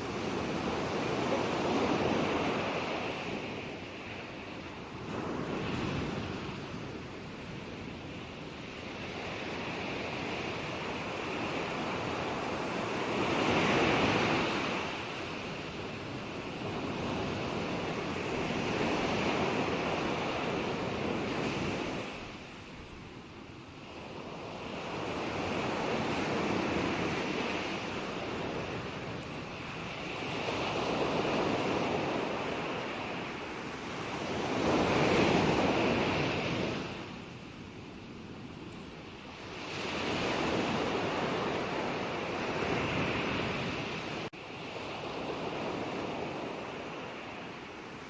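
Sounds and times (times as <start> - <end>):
ocean waves breaking: 0.0 - 23.0, 23.8 - 48.0.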